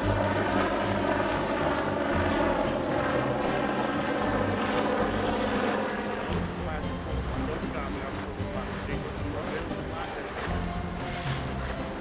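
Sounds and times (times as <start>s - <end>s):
helicopter flying: 0.0s - 12.0s.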